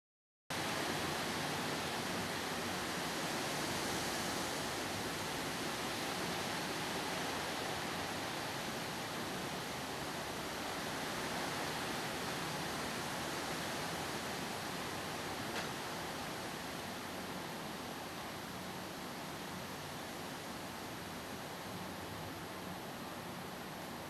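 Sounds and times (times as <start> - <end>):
steady background hiss: 0.5 - 24.0.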